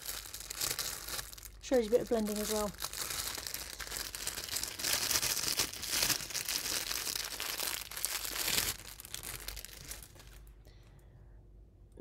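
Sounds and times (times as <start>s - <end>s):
fibres crinkling and rustling: 0.0s - 11.0s.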